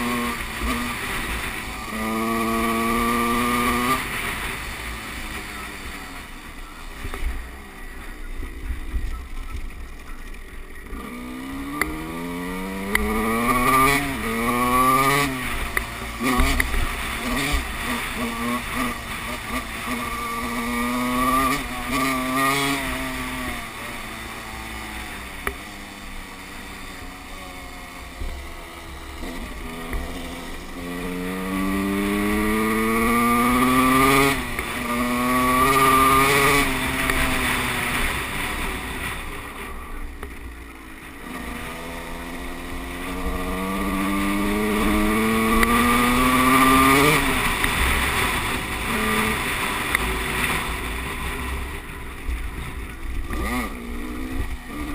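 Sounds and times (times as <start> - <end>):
motocross bike engine accelerating: 0.0 - 54.9.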